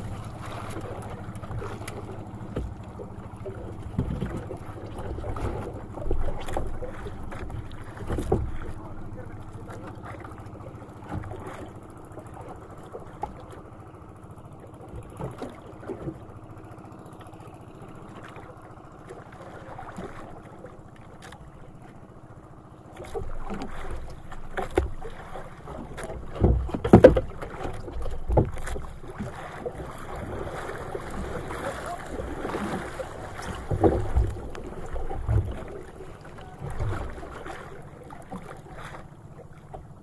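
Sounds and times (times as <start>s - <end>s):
faint steady hum: 0.0s - 40.0s
sea noise: 0.0s - 40.0s
wind: 0.0s - 40.0s.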